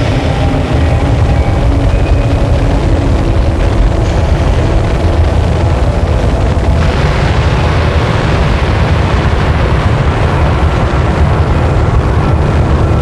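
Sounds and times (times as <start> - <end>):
dense distorted noise music: 0.0 - 13.0.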